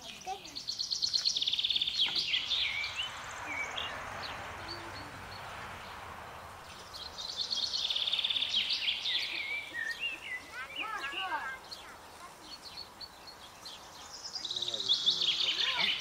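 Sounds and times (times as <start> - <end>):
soft steady hiss: 0.0 - 16.0
songbirds trilling and chirping: 0.0 - 16.0.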